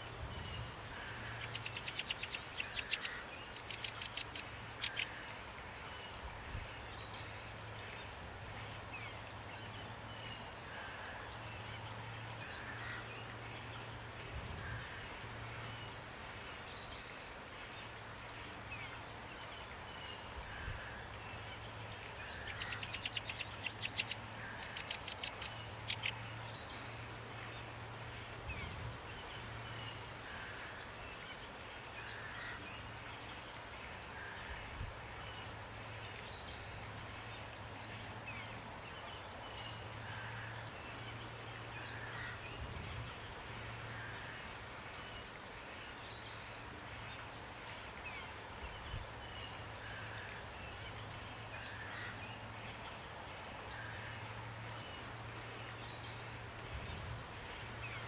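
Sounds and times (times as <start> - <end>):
rainfall hiss: 0.0 - 58.0
songbirds chirping: 0.0 - 58.0.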